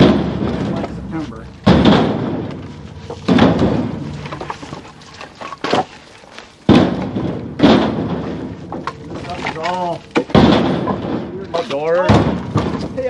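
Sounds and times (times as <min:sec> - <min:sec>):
firewood thunking into trailer: 0:00.0 - 0:13.0.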